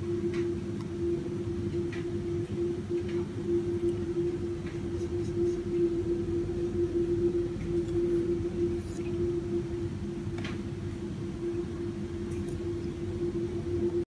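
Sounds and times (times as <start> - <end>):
mechanical hum with rumble: 0.0 - 14.0.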